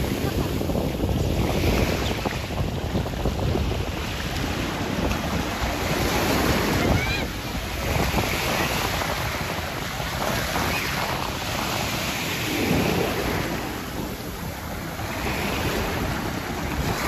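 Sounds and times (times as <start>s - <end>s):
waves breaking on sand: 0.0s - 17.0s.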